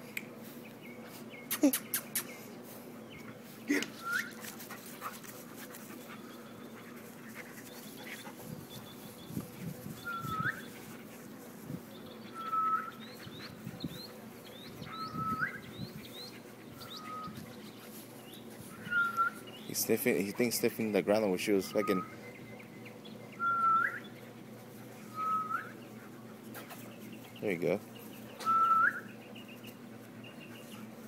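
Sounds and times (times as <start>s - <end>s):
dogs panting: 0.9s - 22.8s, 24.0s - 31.0s.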